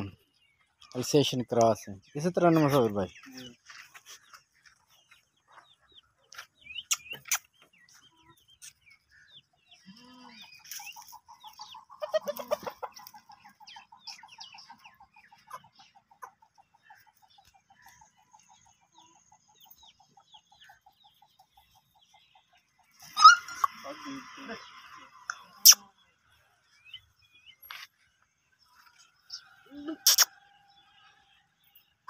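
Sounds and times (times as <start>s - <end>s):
chickens clucking: 0.0s - 30.7s.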